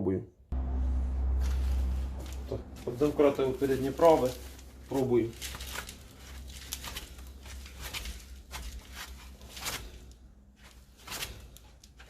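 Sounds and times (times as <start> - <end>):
faint low hum: 0.2 - 12.0
wheel hub scraping strokes: 0.7 - 12.0.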